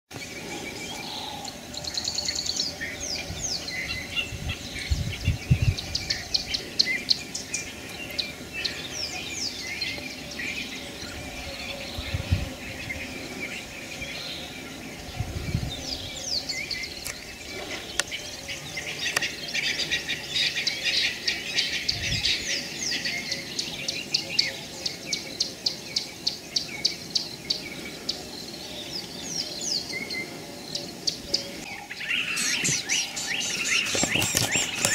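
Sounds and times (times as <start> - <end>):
birds chirping and whistling: 0.1 - 34.9.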